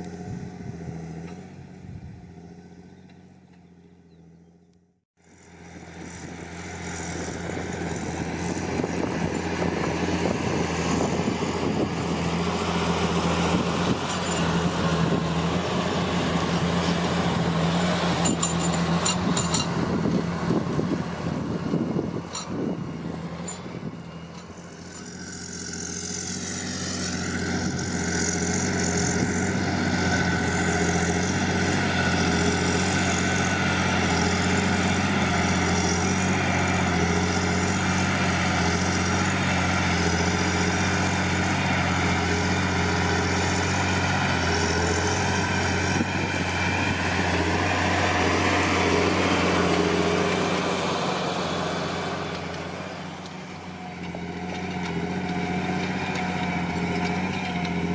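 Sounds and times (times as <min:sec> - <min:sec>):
tractor diesel engine under load: 0:00.0 - 0:57.9.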